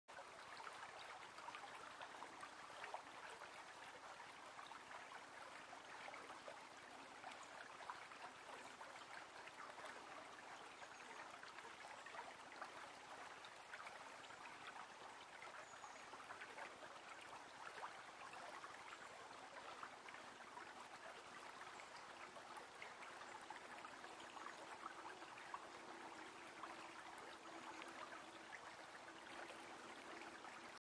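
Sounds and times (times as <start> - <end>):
small stream trickling: 0.1 - 30.8.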